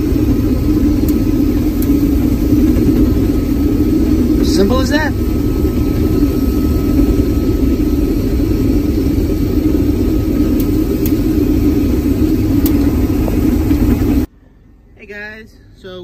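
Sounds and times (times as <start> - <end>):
combine harvester rumble: 0.0 - 15.0.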